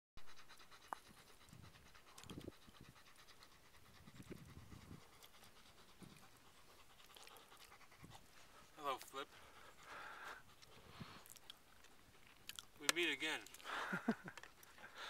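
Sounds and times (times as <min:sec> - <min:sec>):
dog panting: 0:00.2 - 0:15.0.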